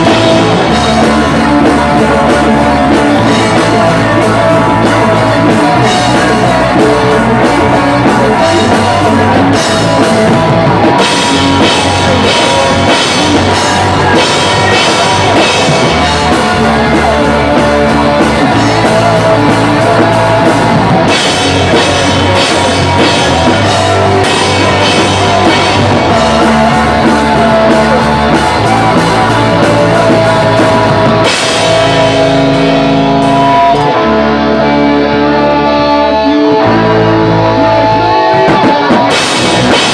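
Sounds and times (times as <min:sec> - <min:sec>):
drum kit with crashing cymbals: 0:00.0 - 0:33.9, 0:38.5 - 0:39.9
distorted electric guitars and bass: 0:00.0 - 0:39.9.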